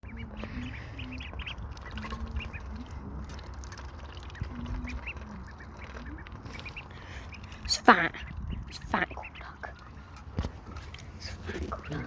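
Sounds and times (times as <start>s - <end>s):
ducklings peeping: 0.0s - 12.0s
steady low rumble: 0.0s - 12.0s.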